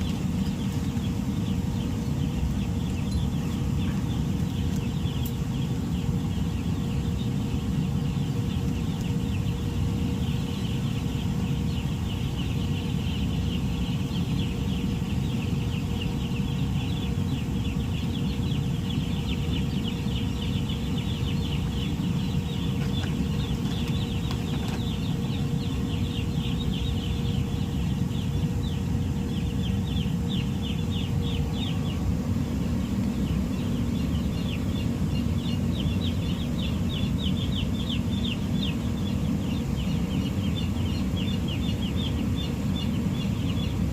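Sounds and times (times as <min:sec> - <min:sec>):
chickens peeping and cheeping: 0:00.0 - 0:43.9
steady low hum: 0:00.0 - 0:43.9.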